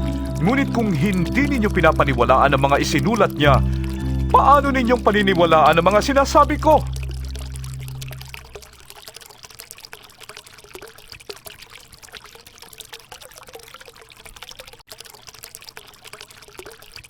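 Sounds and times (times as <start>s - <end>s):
river water bubbling: 0.0s - 14.2s.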